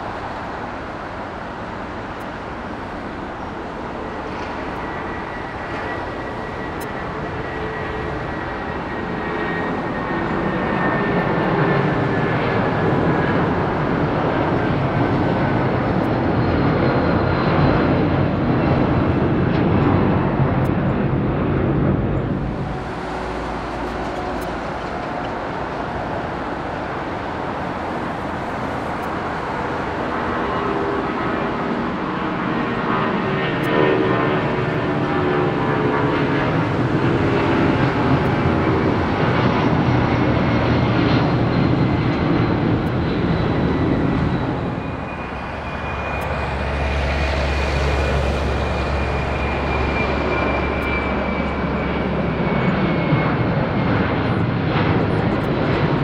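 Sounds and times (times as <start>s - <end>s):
jet airliner engines roaring: 0.0s - 56.0s
jet engines low drone: 0.0s - 56.0s.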